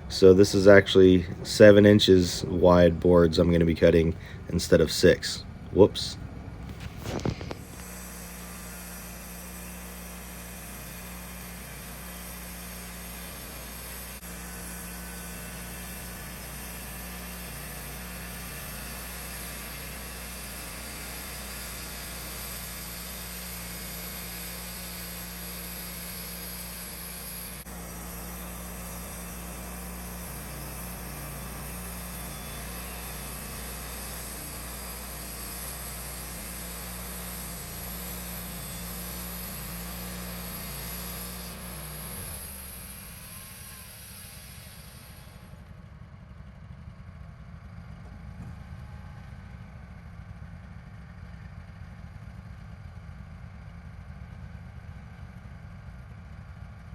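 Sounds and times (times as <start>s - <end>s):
band sawmill sawing wood: 0.0s - 45.6s.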